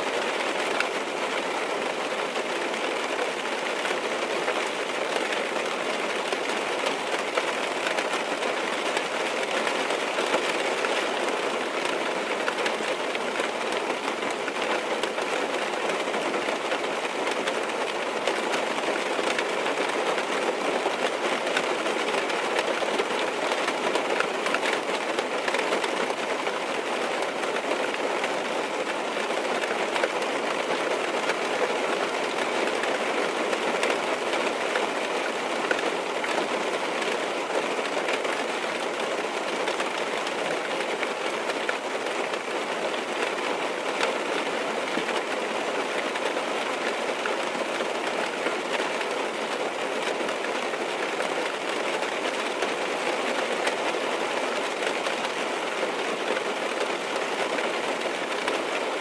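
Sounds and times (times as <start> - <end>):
rain on car roof: 0.0 - 59.0.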